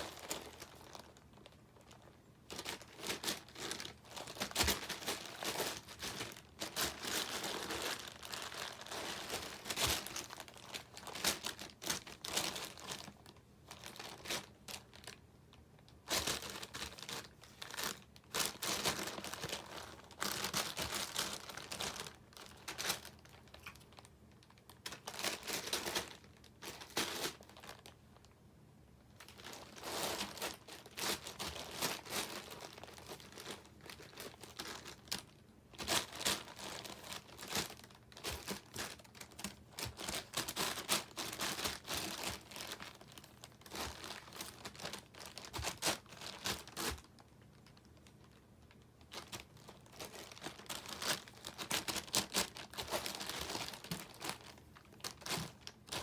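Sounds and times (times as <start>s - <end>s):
packaging crackling and rustling: 0.0s - 28.4s, 29.1s - 56.0s.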